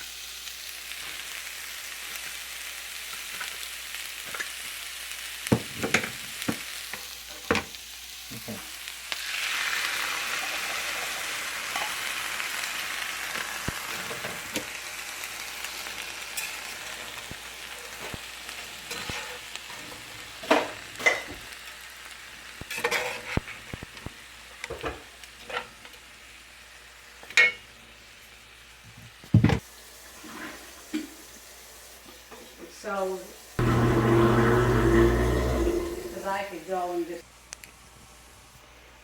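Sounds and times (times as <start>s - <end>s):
food sizzling in a hot pan: 0.0s - 39.0s.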